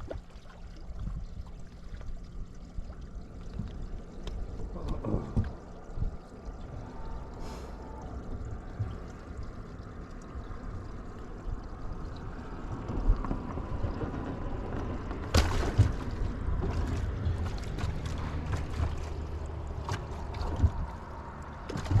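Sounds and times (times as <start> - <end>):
wind and water rumble: 0.0 - 22.0.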